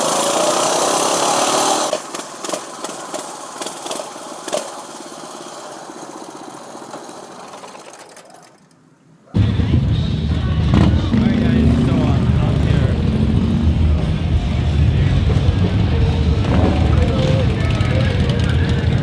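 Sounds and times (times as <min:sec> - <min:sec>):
minibike engine running: 0:00.0 - 0:19.0.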